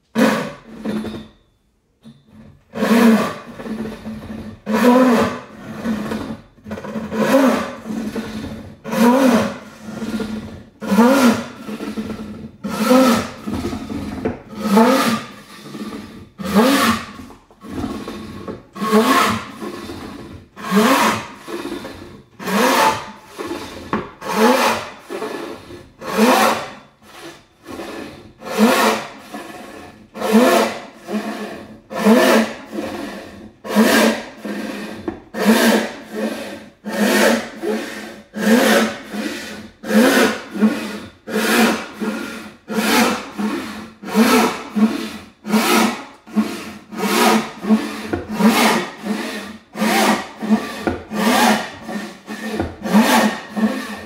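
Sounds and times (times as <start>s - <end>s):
hand saw cutting wood: 0.0s - 1.4s, 2.2s - 54.0s.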